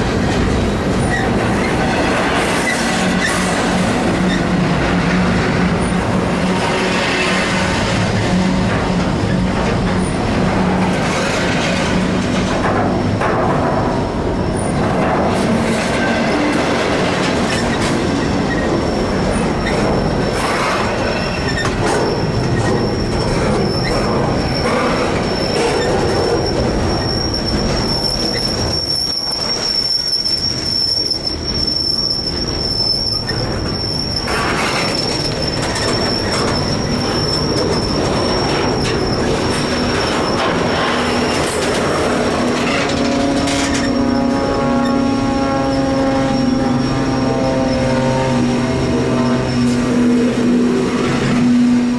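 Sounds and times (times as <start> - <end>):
high wheel squeal: 0.0 - 9.4, 14.3 - 51.9
freight train cars rolling: 0.0 - 51.9.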